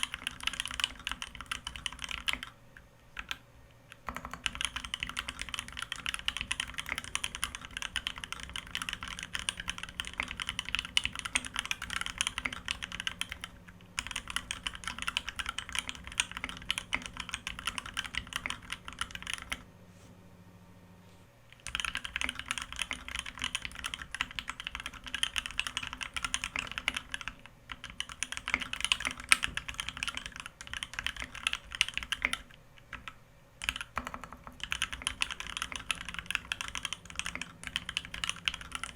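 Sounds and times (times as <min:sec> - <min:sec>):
fast typing on mechanical keyboard: 0:00.0 - 0:19.6, 0:21.5 - 0:38.9.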